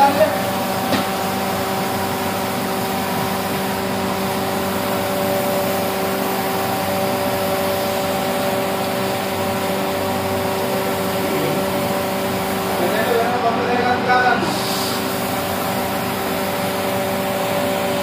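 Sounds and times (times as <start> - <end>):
spray gun hissing: 0.0 - 13.4, 14.5 - 18.0
machine hum: 0.0 - 18.0.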